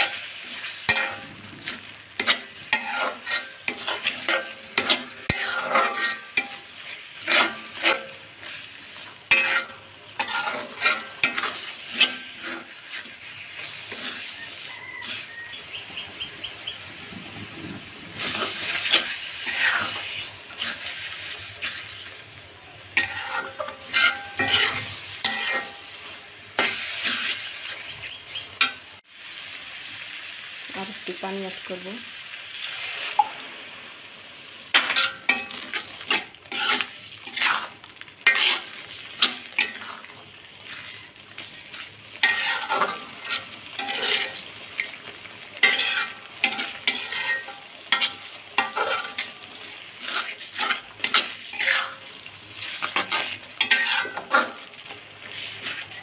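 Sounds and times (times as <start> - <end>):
metal spatula scraping a pot: 0.0 - 15.6, 17.4 - 29.0, 34.7 - 45.0, 45.6 - 49.4, 50.0 - 56.0
spice paste sizzling: 0.0 - 56.0.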